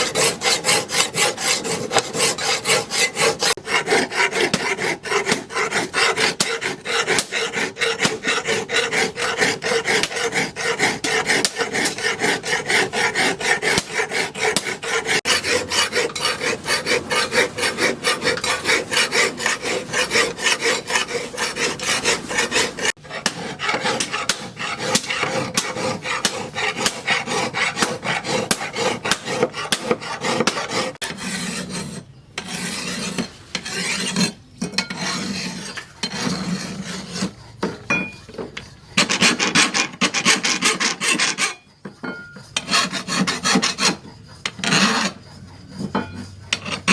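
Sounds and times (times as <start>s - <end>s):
rasping strokes on a knife blade: 0.0s - 46.9s.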